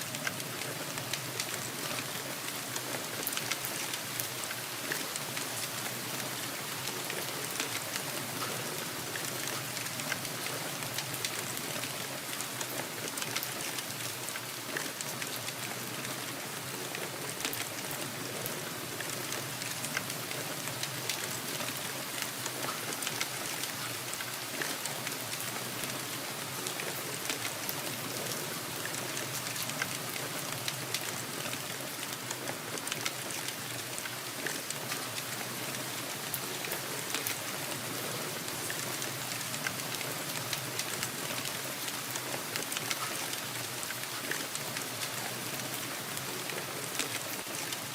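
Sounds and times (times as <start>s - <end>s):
steady rain with drop taps: 0.0s - 47.9s.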